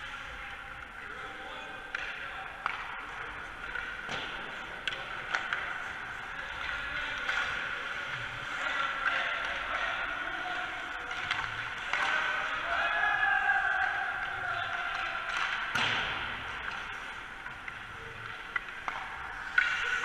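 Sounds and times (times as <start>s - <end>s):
sticks hitting pucks: 1.6s - 20.0s.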